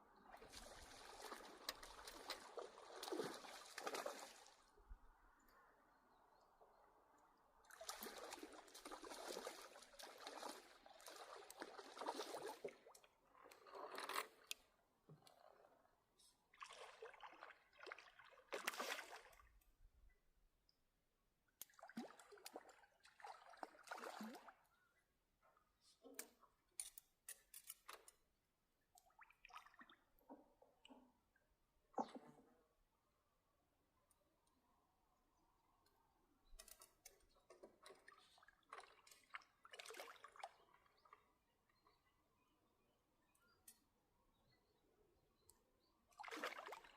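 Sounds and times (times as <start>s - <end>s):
water sloshing and trickling: 0.1s - 5.4s, 6.1s - 33.0s, 35.7s - 43.8s, 45.4s - 46.9s.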